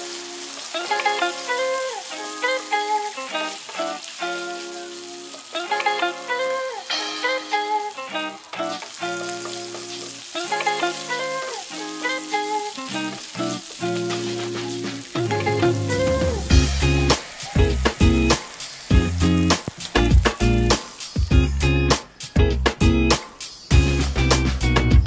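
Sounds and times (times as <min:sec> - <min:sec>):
meat sizzling in frying pan: 0:00.0 - 0:22.4
background music: 0:00.0 - 0:25.0.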